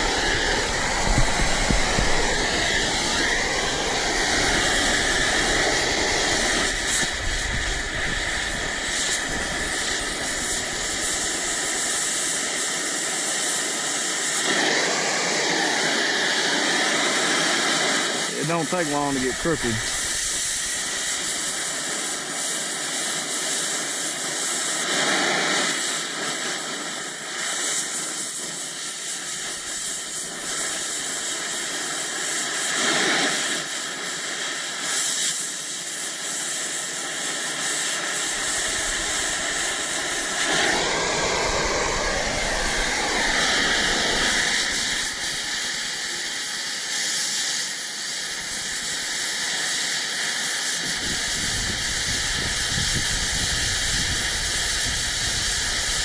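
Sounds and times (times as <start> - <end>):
torch hissing on steel: 0.0 - 56.0.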